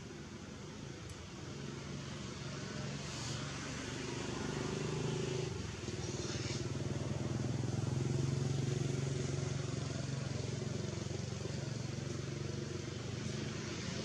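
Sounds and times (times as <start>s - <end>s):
small engine running: 2.0s - 14.0s.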